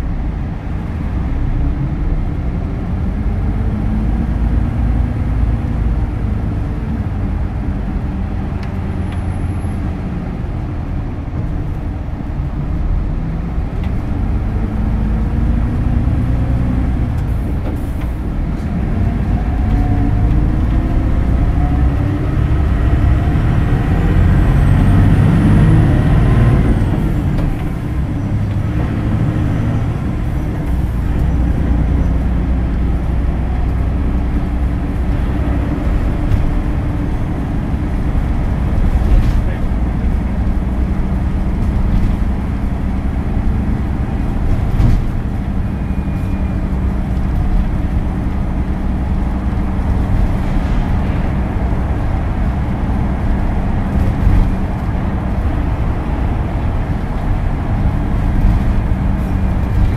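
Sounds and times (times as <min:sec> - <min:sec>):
bus engine: 0:00.0 - 0:59.9
road noise: 0:00.0 - 0:59.9.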